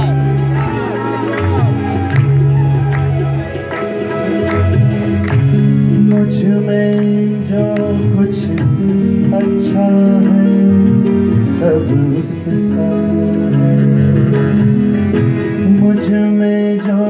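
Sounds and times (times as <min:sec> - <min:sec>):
harmonium playing chords: 0:00.0 - 0:17.0.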